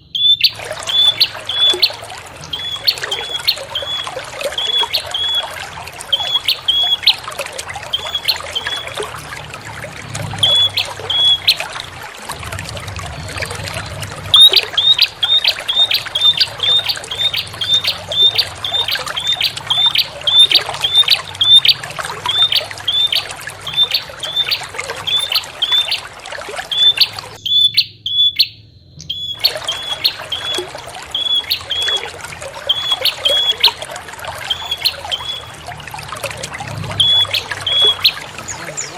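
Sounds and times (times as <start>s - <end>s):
high bird chirps: 0.0s - 7.3s, 7.9s - 9.1s, 10.3s - 11.9s, 14.3s - 32.1s, 32.7s - 33.8s, 34.4s - 35.6s, 37.0s - 38.9s
trickling water: 0.0s - 38.9s.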